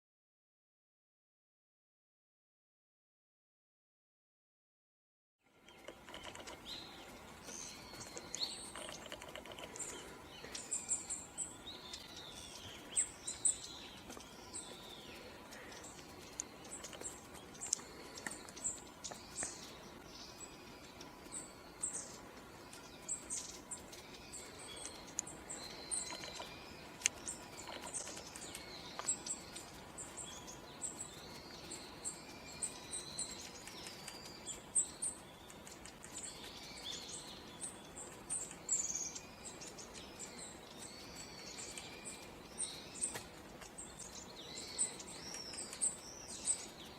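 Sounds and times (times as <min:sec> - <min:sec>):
small birds chirping: 0:05.4 - 0:46.9
steady background hiss: 0:05.4 - 0:46.9.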